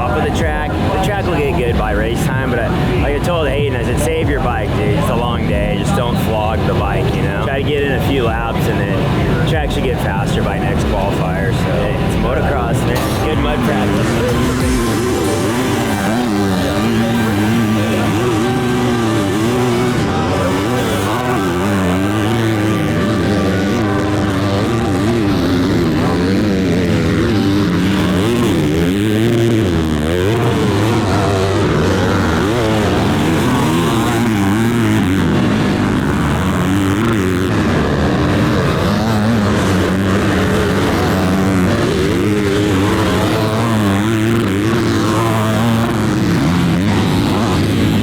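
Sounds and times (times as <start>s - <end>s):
dirt bike engines revving: 0.0s - 48.0s.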